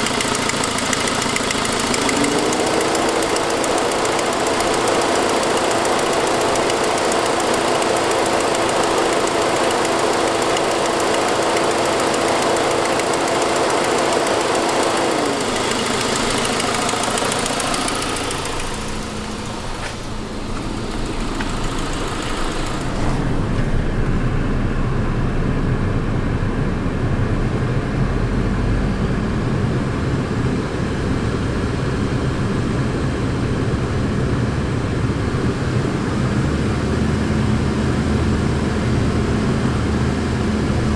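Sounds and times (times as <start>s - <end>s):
car engine with exhaust leak: 0.0s - 40.9s
steady whine: 0.0s - 40.9s.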